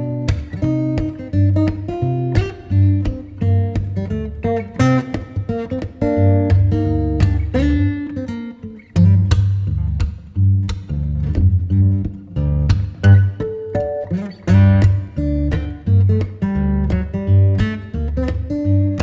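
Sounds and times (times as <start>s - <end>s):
plucked acoustic guitar: 0.0s - 19.0s.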